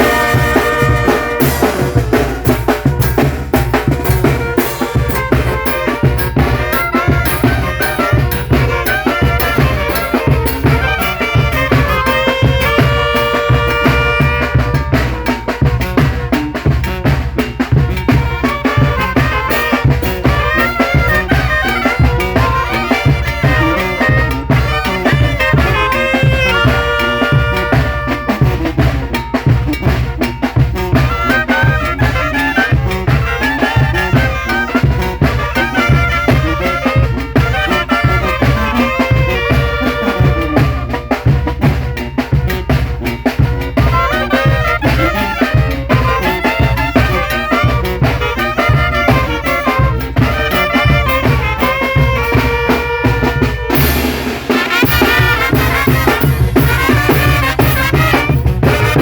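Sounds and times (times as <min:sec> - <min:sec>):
brass band melody: 0:00.0 - 0:59.0
drums keeping a steady beat: 0:00.0 - 0:59.0.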